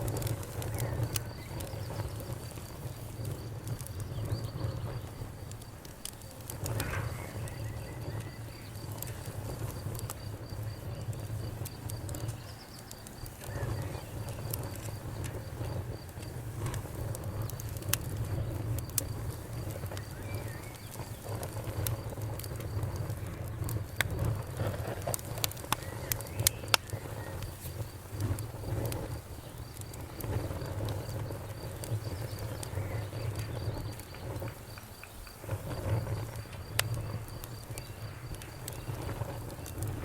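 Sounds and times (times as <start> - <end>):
crickets chirping: 0.0 - 40.0
wood fire crackling: 0.0 - 40.0.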